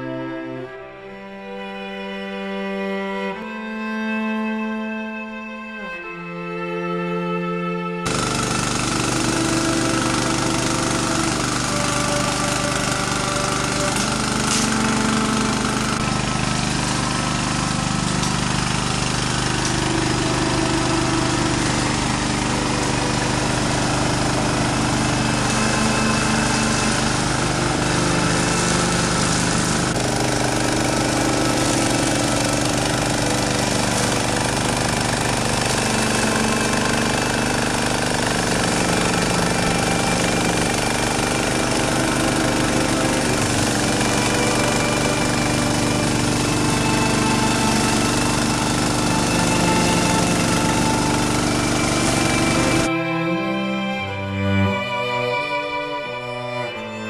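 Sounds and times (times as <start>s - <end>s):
lawn mower engine running: 0.0s - 4.8s, 8.0s - 57.0s.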